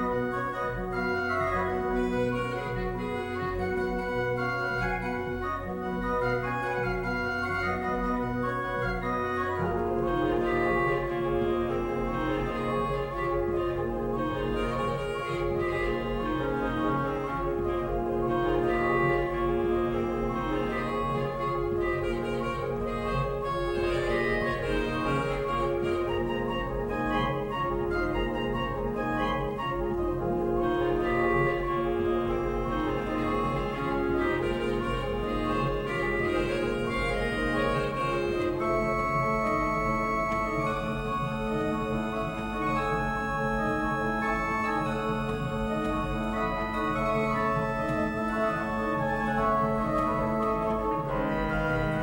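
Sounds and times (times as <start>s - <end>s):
pipe organ playing chords: 0.0s - 52.0s.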